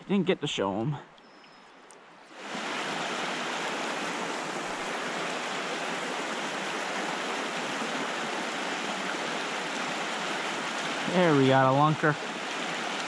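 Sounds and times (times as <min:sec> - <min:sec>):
creek water rushing: 0:02.2 - 0:13.0.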